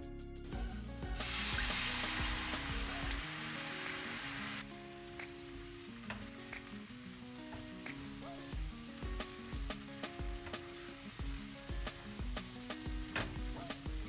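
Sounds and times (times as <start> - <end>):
hot oil sizzling: 0.4 - 14.0.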